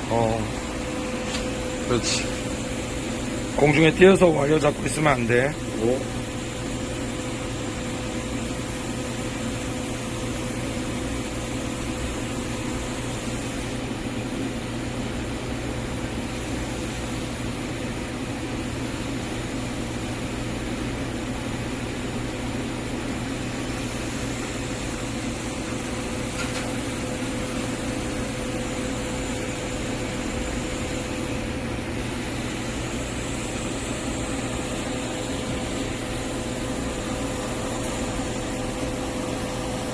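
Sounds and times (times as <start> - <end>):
welding hiss and hum: 0.0 - 39.9.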